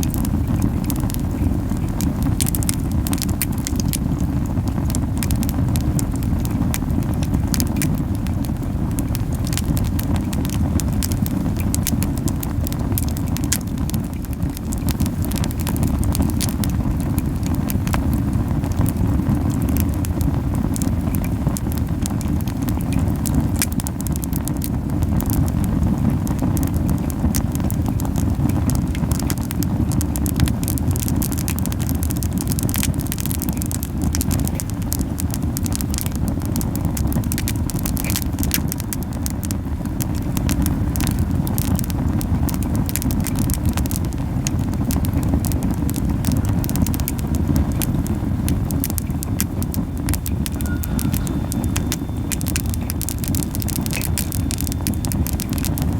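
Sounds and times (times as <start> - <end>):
fire crackling and popping: 0.0 - 55.9
low puffing of flames: 0.0 - 55.9.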